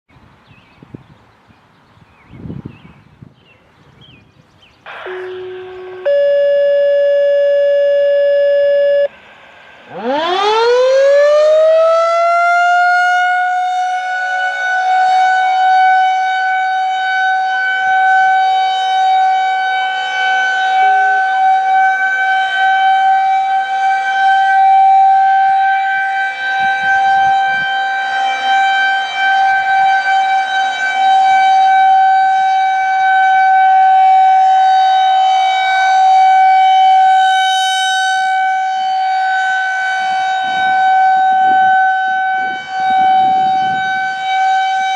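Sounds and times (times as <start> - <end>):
outdoor warning siren: 4.8 - 44.9.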